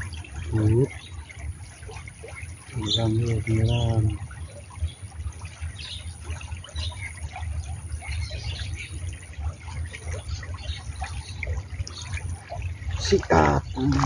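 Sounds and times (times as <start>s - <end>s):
stream water trickling: 0.0s - 14.0s.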